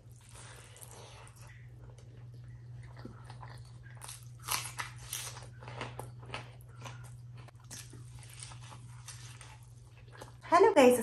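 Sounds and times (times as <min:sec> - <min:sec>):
steady low hum: 0:00.0 - 0:11.0
close chewing with wet clicks: 0:00.2 - 0:10.4.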